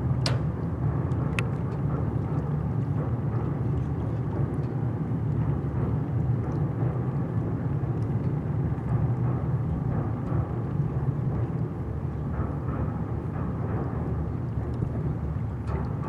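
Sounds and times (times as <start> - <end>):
distant train rumbling on bridge: 0.0 - 16.0.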